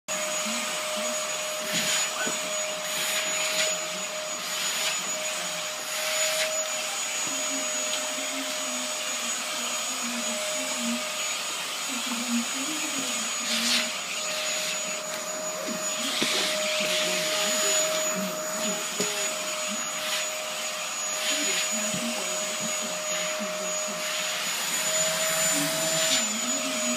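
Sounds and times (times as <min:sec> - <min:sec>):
vacuum cleaner running: 0:00.1 - 0:26.9.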